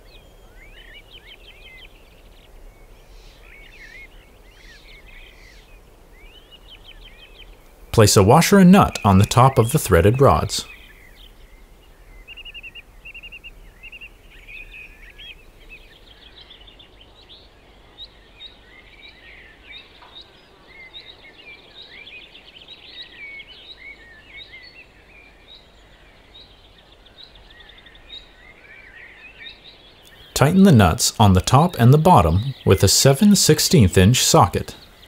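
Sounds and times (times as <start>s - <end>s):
birds singing and chirping: 0.0s - 35.0s
faint background noise: 0.0s - 35.0s.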